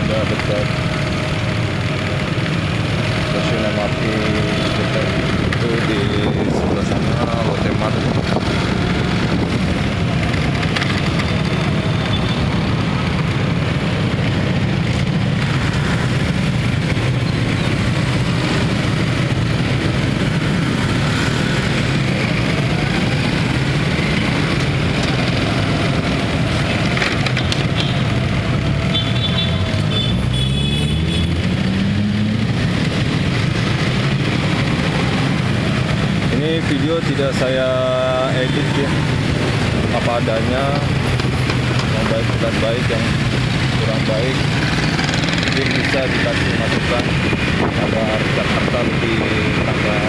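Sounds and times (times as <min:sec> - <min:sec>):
cars and motorcycles passing: 0:00.0 - 0:50.0.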